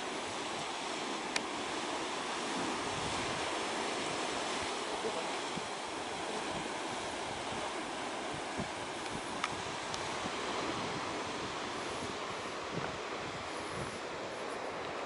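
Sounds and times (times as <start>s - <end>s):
ocean surf: 0.0s - 15.0s
wind on microphone: 0.0s - 15.0s.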